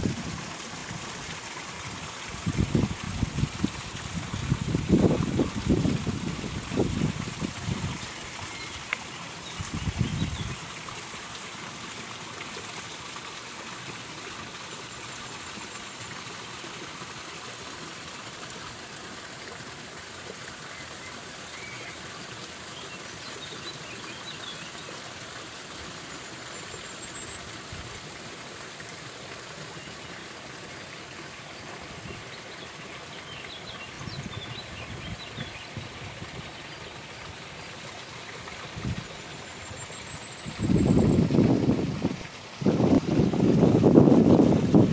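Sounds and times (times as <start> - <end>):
small waterfall running: 0.0 - 44.9.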